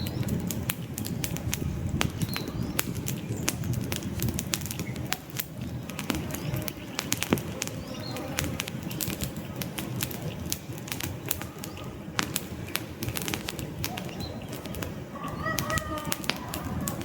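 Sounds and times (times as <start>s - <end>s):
campfire crackling and popping: 0.0s - 17.0s
rush of flame: 0.0s - 17.0s.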